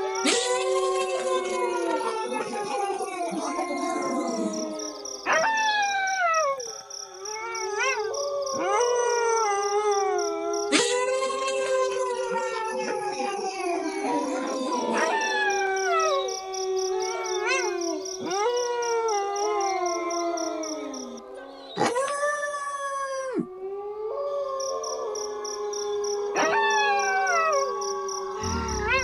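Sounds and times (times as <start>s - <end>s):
wolves howling: 0.0s - 29.0s.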